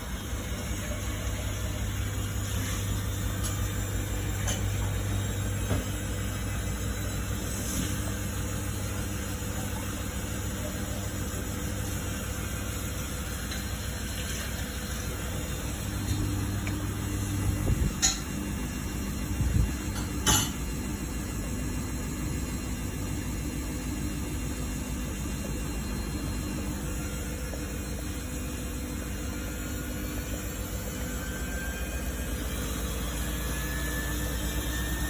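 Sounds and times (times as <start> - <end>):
washing machine humming: 0.0 - 35.0.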